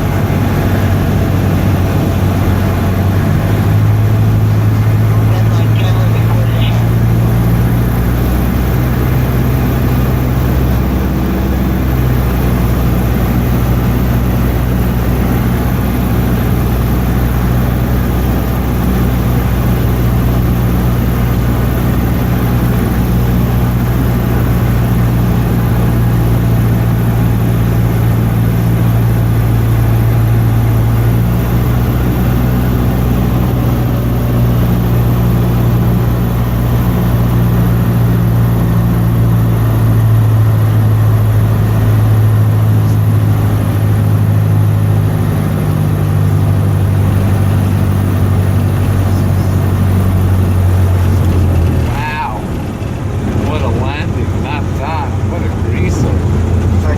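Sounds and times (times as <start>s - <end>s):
propeller plane engine droning: 0.0s - 56.9s.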